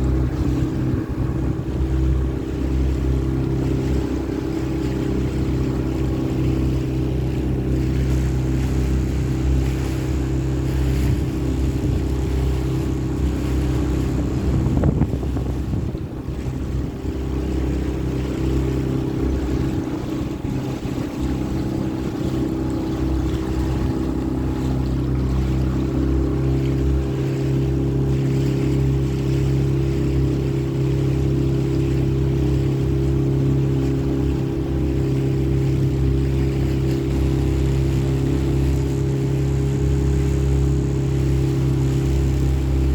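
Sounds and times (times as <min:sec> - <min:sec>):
motorboat engine running: 0:00.0 - 0:42.9
water rushing past hull: 0:00.0 - 0:42.9
wind on microphone: 0:00.0 - 0:42.9.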